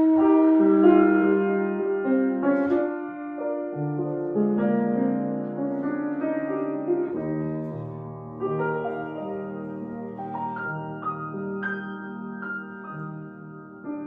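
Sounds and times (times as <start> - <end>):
jazz piano chords: 0.0 - 14.0.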